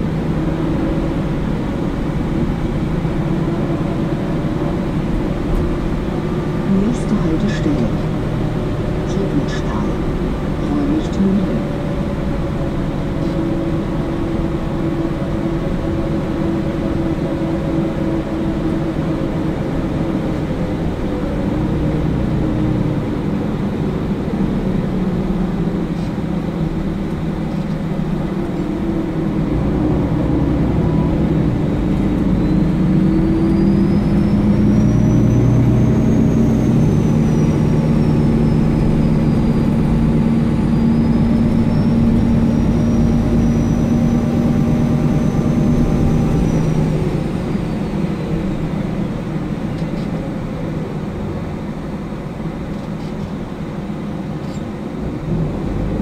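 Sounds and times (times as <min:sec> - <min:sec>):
bus engine and drive noise: 0:00.0 - 0:56.0.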